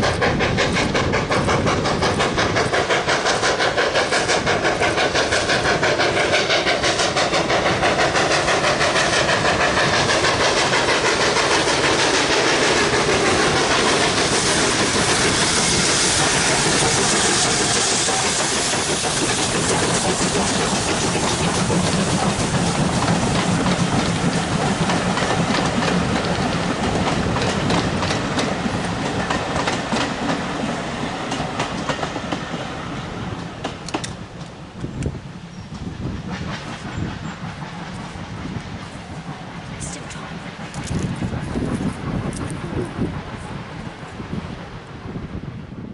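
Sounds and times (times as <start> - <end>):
steam hissing: 0.0 - 44.6
train wheels clacking over rail joints: 0.0 - 44.6
steam locomotive exhaust beats: 0.0 - 45.9.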